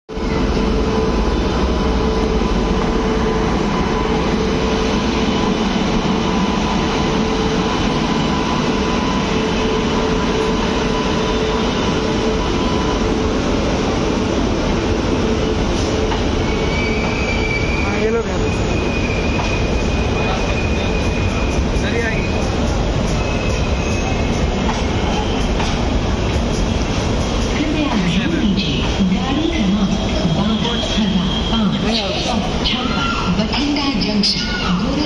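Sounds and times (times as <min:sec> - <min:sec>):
locomotive hum: 0:00.1 - 0:35.0
train wheels rumbling on rails: 0:00.1 - 0:35.0.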